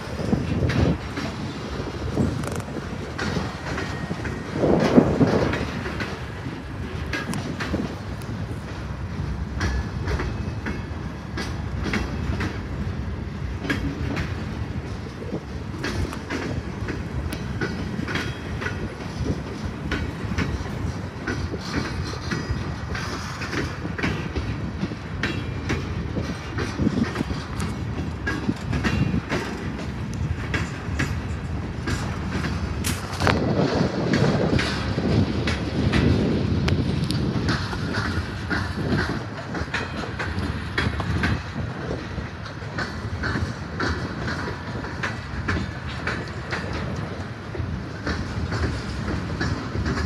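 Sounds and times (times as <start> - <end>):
clickety-clack over rail joints: 0.0 - 50.0
train wheels rumbling on track: 0.0 - 50.0.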